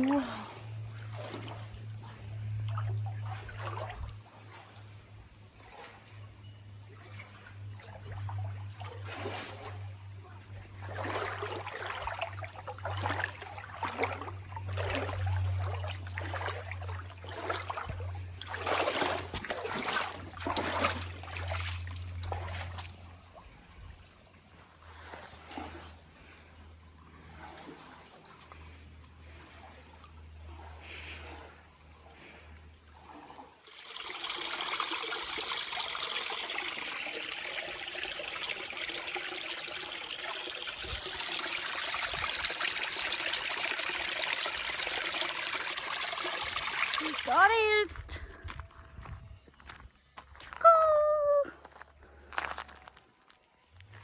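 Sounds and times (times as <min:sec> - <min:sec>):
water trickling in creek: 0:00.0 - 0:49.8.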